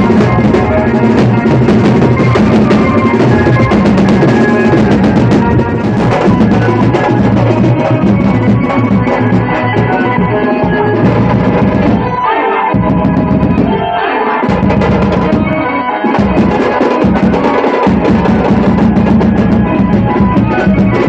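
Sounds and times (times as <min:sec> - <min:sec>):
loud music with heavy drum beat: 0:00.0 - 0:21.0.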